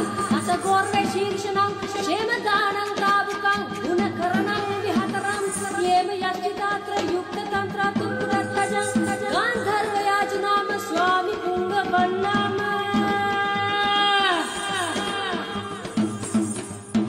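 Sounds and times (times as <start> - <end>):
women singing folk song: 0.0 - 16.6.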